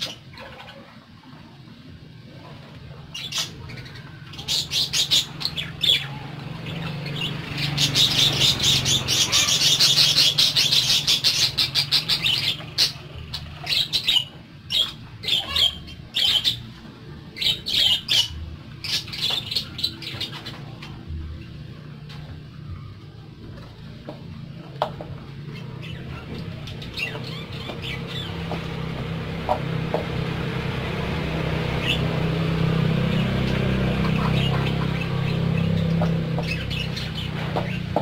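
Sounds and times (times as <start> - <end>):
parakeets chirping: 2.4 - 38.0.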